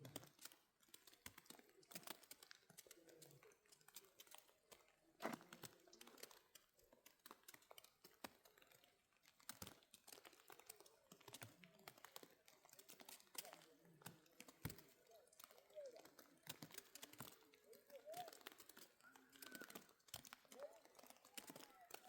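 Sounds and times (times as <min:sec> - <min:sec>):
faint clicks and crackles: 0:00.0 - 0:22.0.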